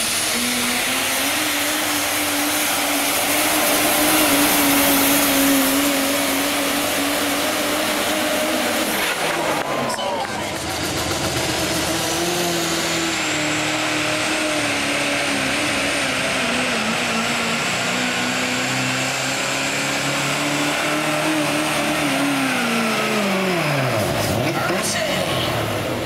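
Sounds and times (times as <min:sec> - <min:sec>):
diesel truck engine straining: 0:00.0 - 0:26.0.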